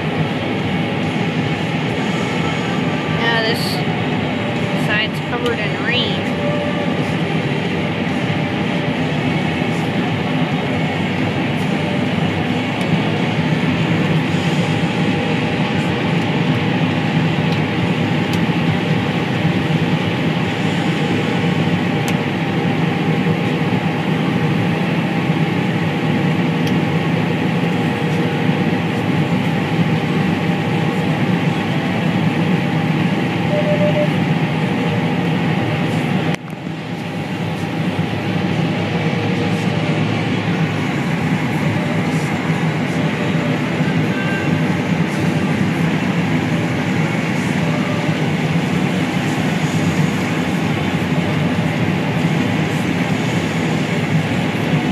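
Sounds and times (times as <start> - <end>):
combine harvester engine drone: 0.0 - 54.9.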